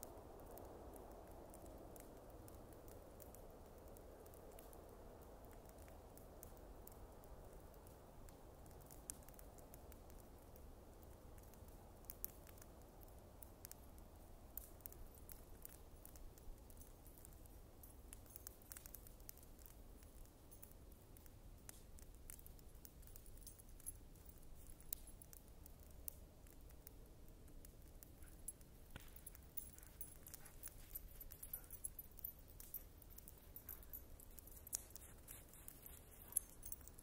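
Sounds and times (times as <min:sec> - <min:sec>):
bonfire crackling: 0:00.0 - 0:37.0
faint low rumble: 0:00.0 - 0:37.0.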